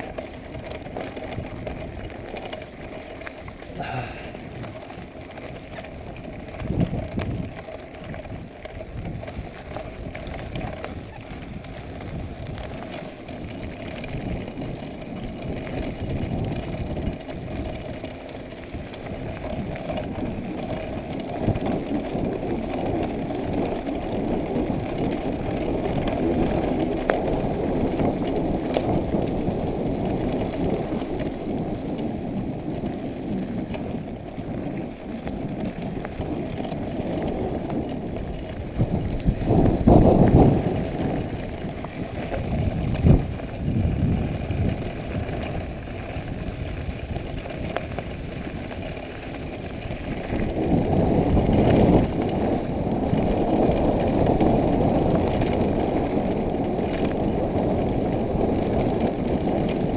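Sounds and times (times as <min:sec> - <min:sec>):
bike rattling and clicking: 0:00.0 - 0:59.9
bike tyres rumbling on gravel: 0:00.0 - 0:59.9.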